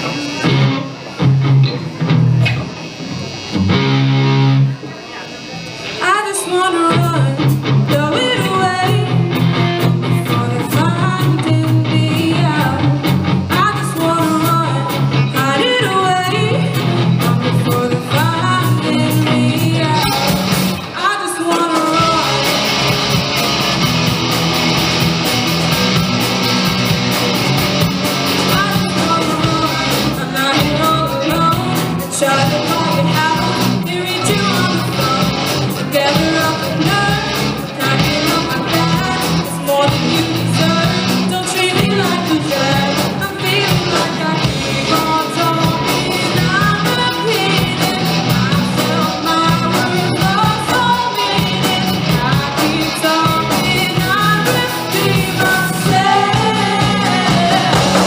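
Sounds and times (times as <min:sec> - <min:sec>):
live rock band playing: 0:00.0 - 0:58.0
lead singer singing: 0:06.0 - 0:23.4, 0:28.3 - 0:58.0.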